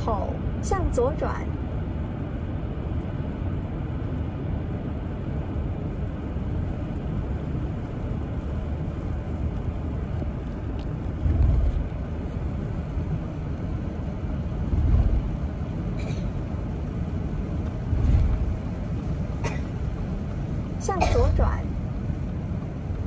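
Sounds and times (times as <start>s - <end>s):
car interior rumble: 0.0s - 23.0s.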